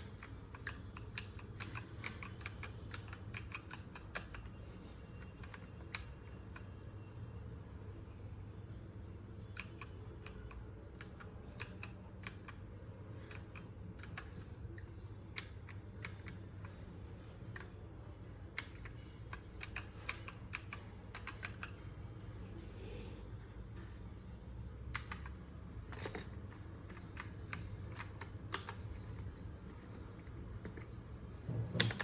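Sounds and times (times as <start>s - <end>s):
mechanical keyboard typing: 0.0s - 6.8s, 9.4s - 21.9s, 24.8s - 31.0s, 31.7s - 32.0s.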